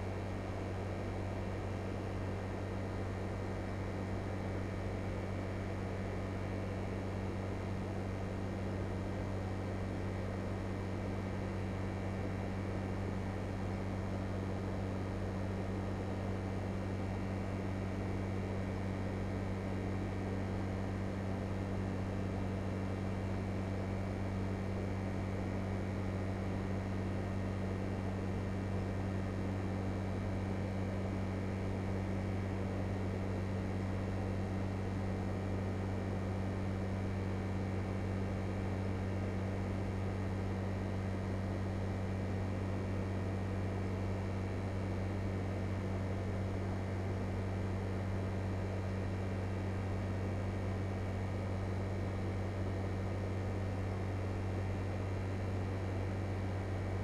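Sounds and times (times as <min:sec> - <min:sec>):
air conditioner hiss: 0:00.0 - 0:57.0
air conditioner hum: 0:00.0 - 0:57.0.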